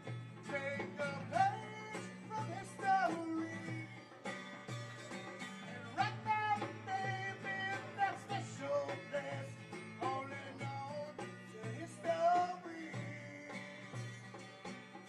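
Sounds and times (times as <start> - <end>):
hand drum beating: 0.0 - 15.0
strummed acoustic guitar: 0.0 - 15.0.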